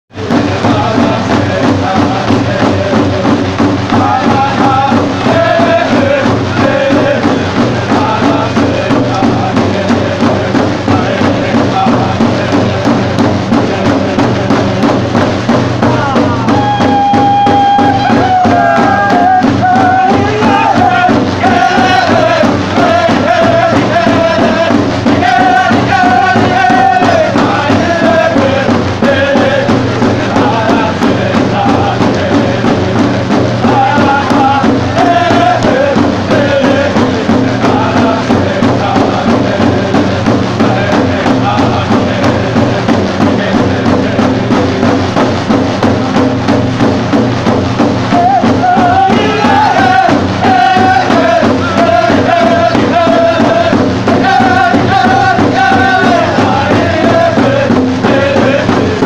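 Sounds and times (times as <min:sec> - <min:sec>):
frame drums beaten in unison: 0:00.1 - 0:59.0
group singing: 0:00.1 - 0:59.0.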